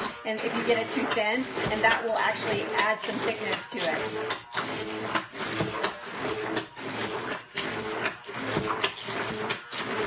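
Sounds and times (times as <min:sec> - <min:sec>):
stick blender motor hum: 0:00.0 - 0:10.0.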